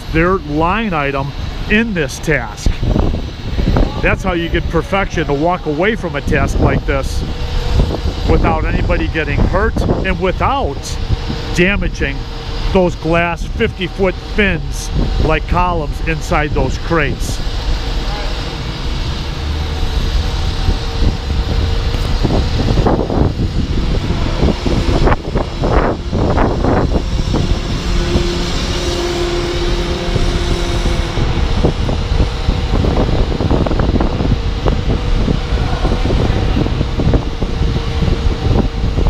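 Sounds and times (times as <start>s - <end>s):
city street noise: 0.0s - 39.0s
engines rumbling: 0.0s - 39.0s
wind buffeting microphone: 0.0s - 39.0s.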